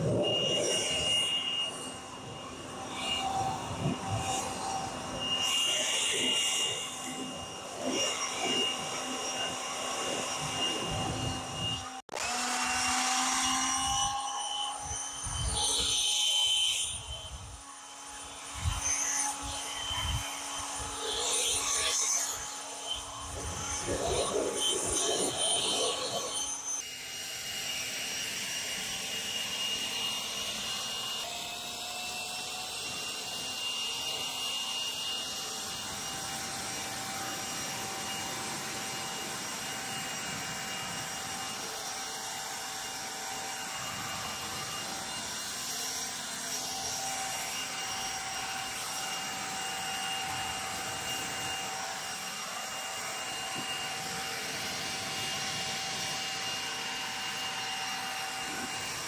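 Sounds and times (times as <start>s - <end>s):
leaf blower running: 0.0s - 16.4s, 17.0s - 59.0s.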